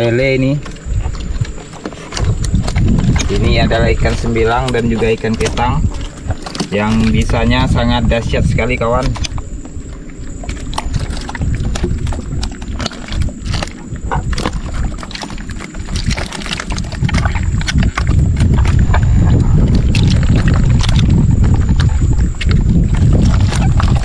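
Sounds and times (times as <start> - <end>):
fish flopping against planks: 0.0 - 24.0
low rumble: 0.0 - 24.0
water sloshing: 0.0 - 24.0.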